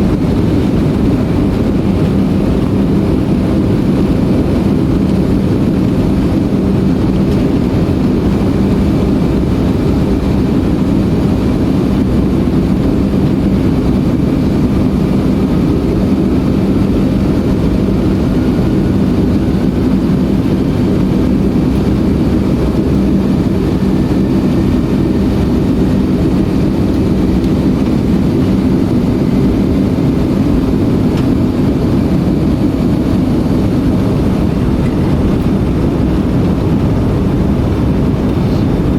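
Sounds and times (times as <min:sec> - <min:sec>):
jet cabin engine noise: 0:00.0 - 0:38.9.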